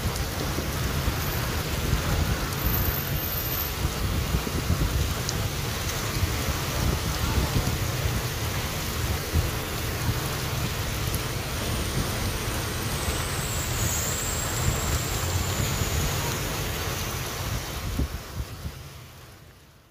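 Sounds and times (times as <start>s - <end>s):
heavy rain pouring on street: 0.0s - 19.9s.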